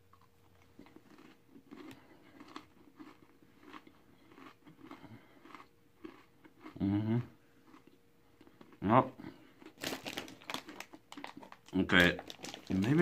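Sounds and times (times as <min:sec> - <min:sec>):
person chewing crunchy pretzels: 0:00.0 - 0:13.0.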